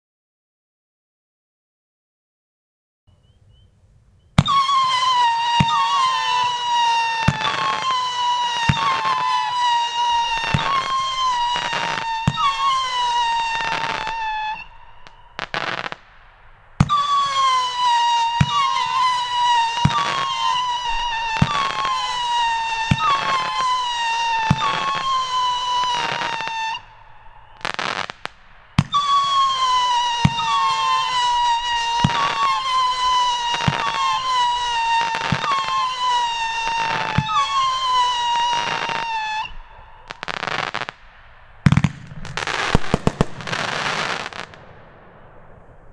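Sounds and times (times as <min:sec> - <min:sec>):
whistling firework shots: 0:04.3 - 0:45.9
firework crackle: 0:04.4 - 0:45.9.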